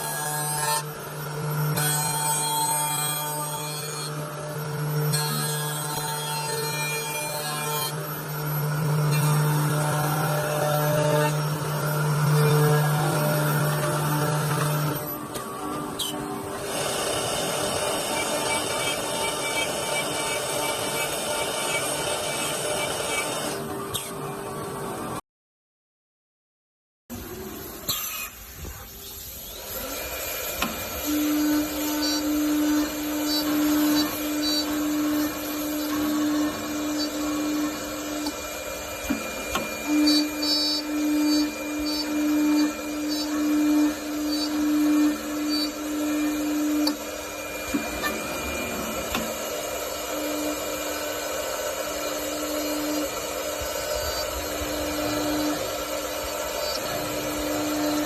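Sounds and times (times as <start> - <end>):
wood lathe whining: 0.0 - 25.2, 29.2 - 58.0.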